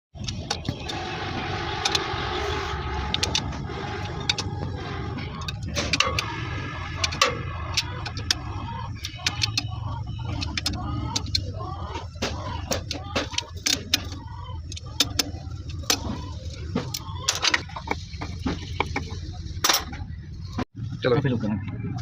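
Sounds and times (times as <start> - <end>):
voices murmuring: 0.1 - 22.0
low rumble: 0.2 - 21.0.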